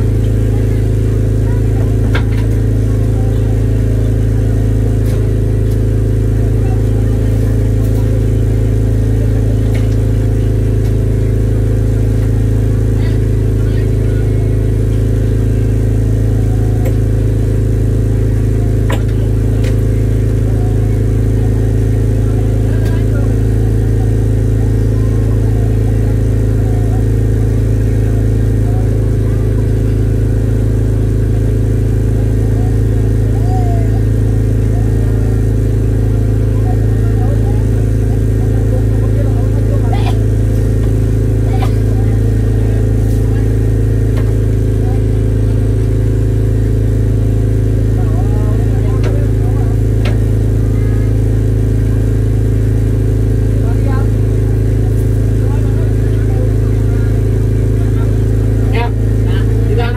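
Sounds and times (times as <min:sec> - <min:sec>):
boat engine droning: 0:00.0 - 0:59.9
faint voices talking: 0:00.0 - 0:59.9.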